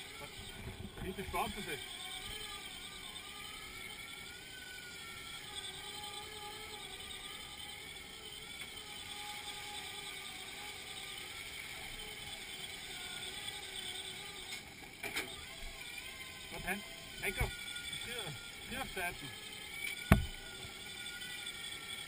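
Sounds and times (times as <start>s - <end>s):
faint whine: 0.0s - 22.0s.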